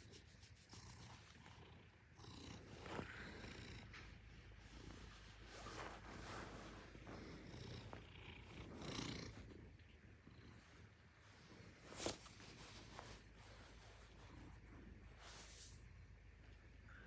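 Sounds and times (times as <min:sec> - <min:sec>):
cat purring: 0:00.0 - 0:16.8.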